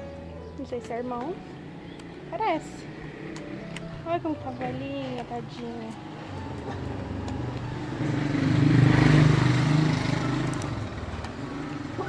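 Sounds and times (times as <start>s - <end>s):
vehicle driving past: 1.3s - 12.0s.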